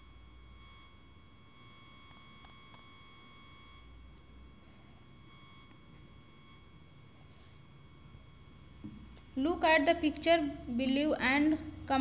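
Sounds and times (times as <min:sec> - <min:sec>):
high-pitched electronic whine: 0:00.0 - 0:12.0.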